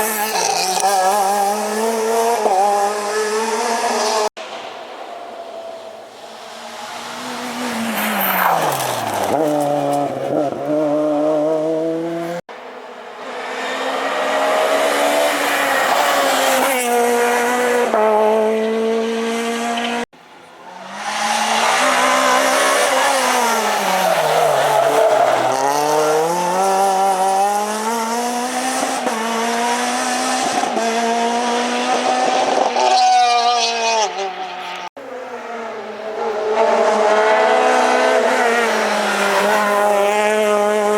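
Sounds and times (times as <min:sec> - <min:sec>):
rally car engine revving: 0:00.0 - 0:04.3, 0:06.5 - 0:20.1, 0:20.7 - 0:40.9.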